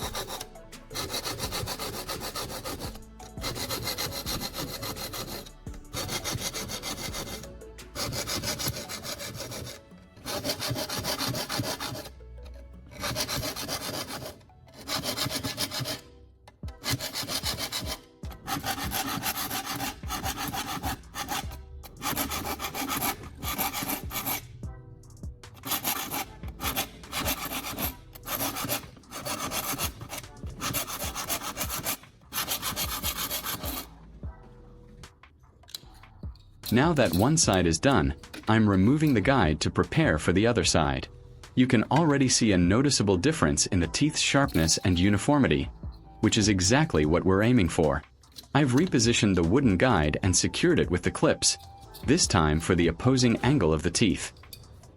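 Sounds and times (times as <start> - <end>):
file rasping on saw teeth: 0.0 - 24.7, 25.4 - 34.0, 35.7 - 40.4, 43.6 - 54.8.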